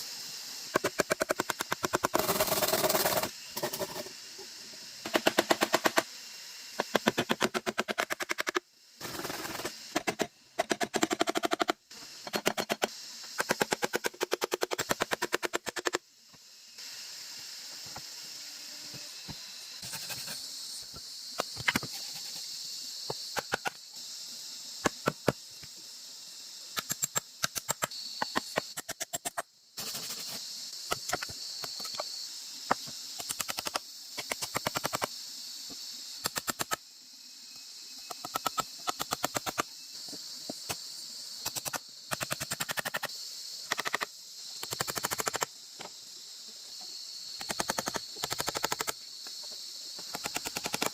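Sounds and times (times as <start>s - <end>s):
steady high-pitched hiss: 0.0s - 50.9s.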